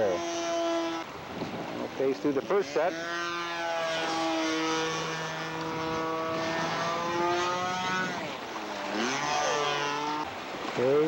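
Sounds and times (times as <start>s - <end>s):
model plane engine in flight: 0.0s - 1.2s, 1.8s - 10.3s.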